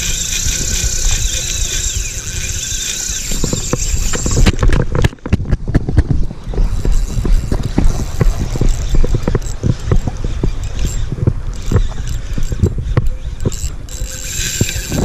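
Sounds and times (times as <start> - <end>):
fishing reel whining: 0.0 - 5.1, 6.2 - 15.0
low wind rumble: 0.0 - 15.0.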